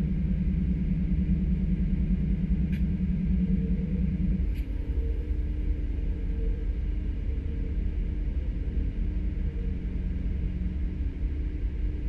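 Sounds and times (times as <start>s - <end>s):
droning hum: 0.0s - 12.0s.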